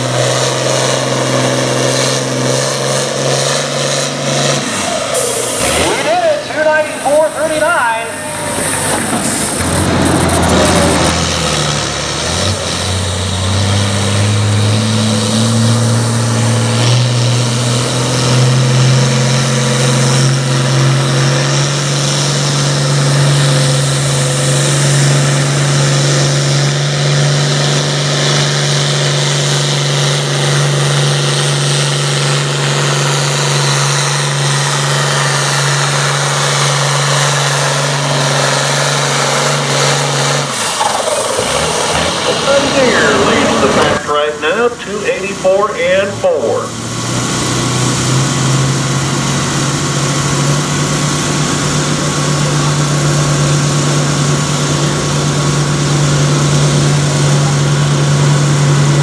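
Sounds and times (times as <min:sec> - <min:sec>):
tractor diesel engine at high revs: 0:00.0 - 0:59.0.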